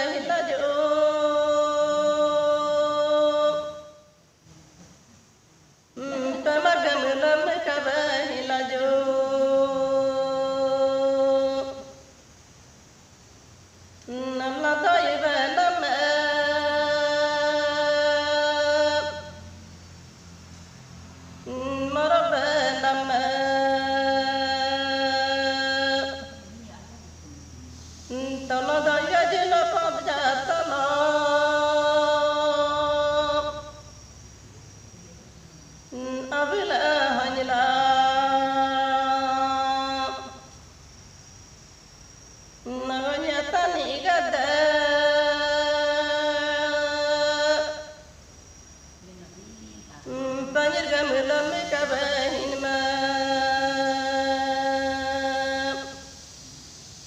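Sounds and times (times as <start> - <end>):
woman singing unaccompanied: 0.0 - 12.1, 14.0 - 19.9, 21.2 - 34.2, 35.5 - 40.6, 42.6 - 48.2, 49.0 - 56.3.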